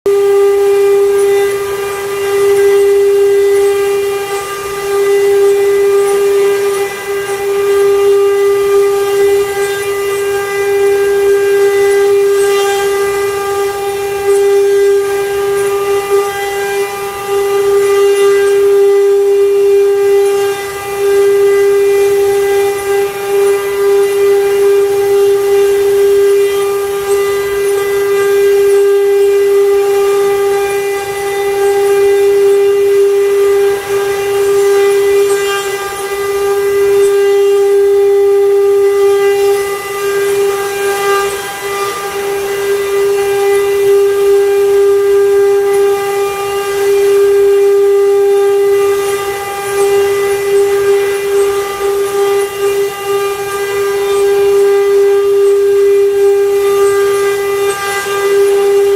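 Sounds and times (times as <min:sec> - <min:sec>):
router spindle whining: 0:00.0 - 0:58.9.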